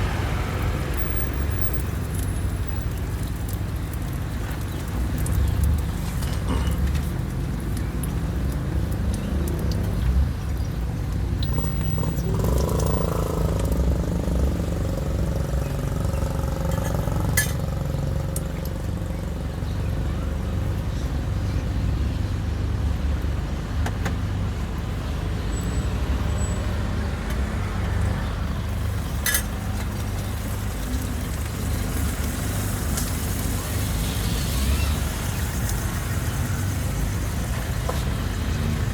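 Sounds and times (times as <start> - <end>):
vehicle engines rumbling: 0.0 - 38.9.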